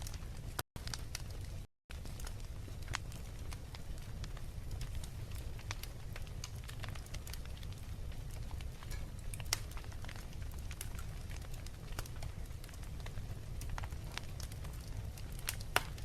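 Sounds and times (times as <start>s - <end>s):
fireplace fire crackling: 0.0s - 16.0s
sharp pops of fire: 0.0s - 16.0s.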